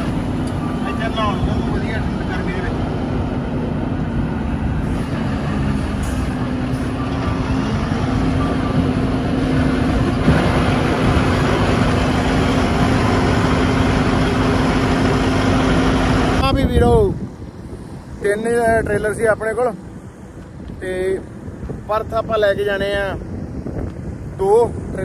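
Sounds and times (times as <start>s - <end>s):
road noise: 0.0s - 25.0s
vehicle engine hum: 0.0s - 25.0s.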